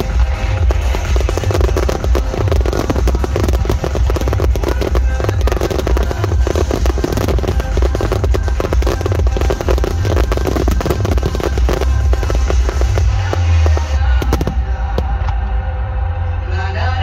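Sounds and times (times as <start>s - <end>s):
fireworks bursting: 0.0s - 15.6s
loud music with heavy bass: 0.0s - 17.0s.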